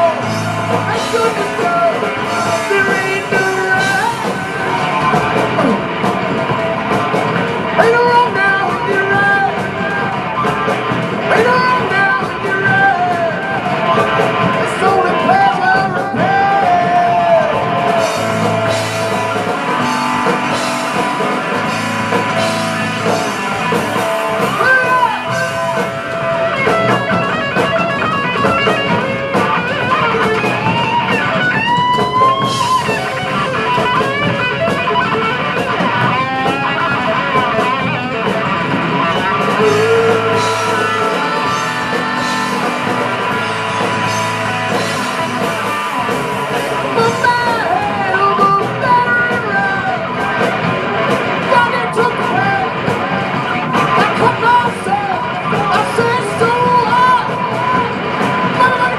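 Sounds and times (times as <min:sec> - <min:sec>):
person singing: 0:00.0 - 0:06.2, 0:07.2 - 0:35.9, 0:36.5 - 0:58.9
drum kit: 0:00.0 - 0:58.9
electric guitar: 0:00.0 - 0:58.9.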